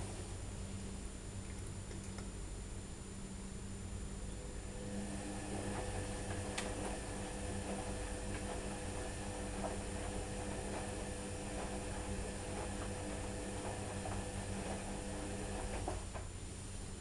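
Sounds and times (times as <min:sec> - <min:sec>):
washer drum motor hum: 0:00.0 - 0:02.8, 0:03.6 - 0:17.0.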